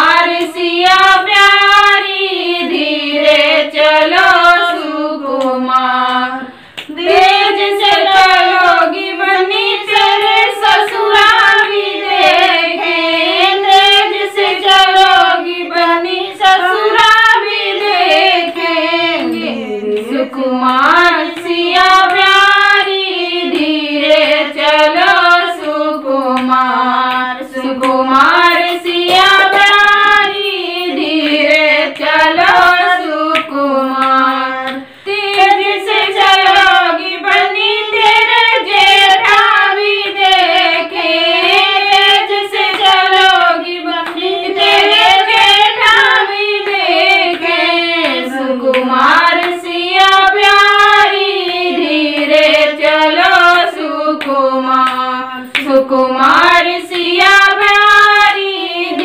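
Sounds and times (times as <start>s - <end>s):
women singing folk song: 0.0s - 59.0s
hand claps: 3.7s - 59.0s.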